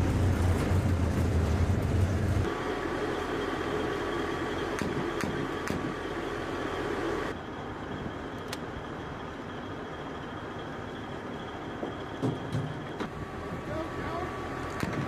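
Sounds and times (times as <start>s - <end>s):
mechanical drone with whine: 0.0s - 15.0s.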